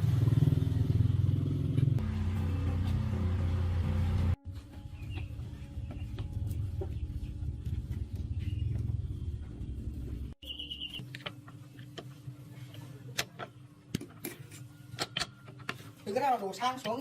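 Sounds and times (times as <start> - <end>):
motor rumble and hum: 0.0 - 13.9.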